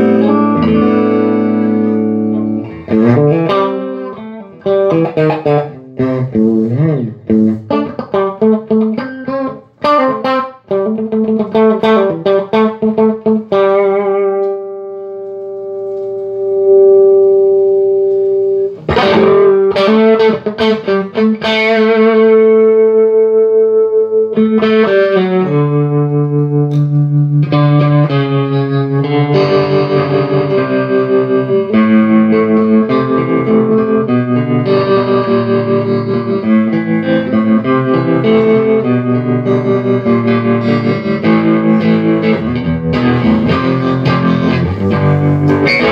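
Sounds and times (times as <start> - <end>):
electric guitar through valve amp: 0.0 - 45.9.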